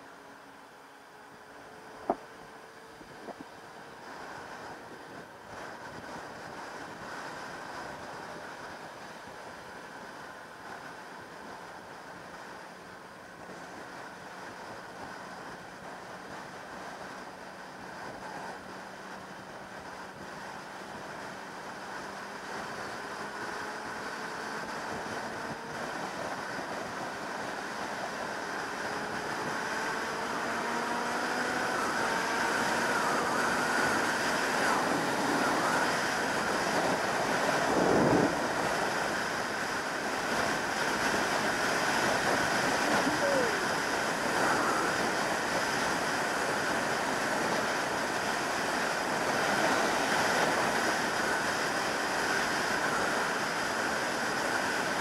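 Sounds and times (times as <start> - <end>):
wind rushing over camera: 0.8 - 55.0.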